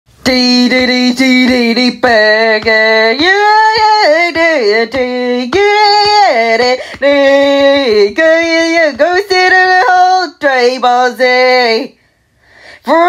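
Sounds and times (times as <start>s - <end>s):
person singing: 0.2s - 12.0s, 12.7s - 13.0s.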